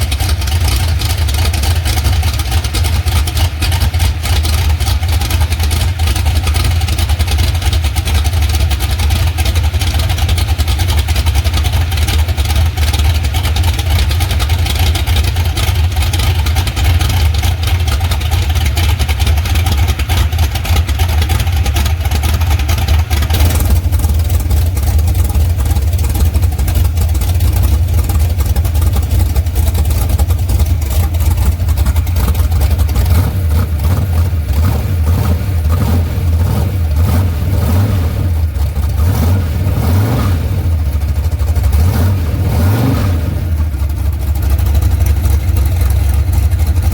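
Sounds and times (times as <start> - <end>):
engine rumbling: 0.0 - 46.9.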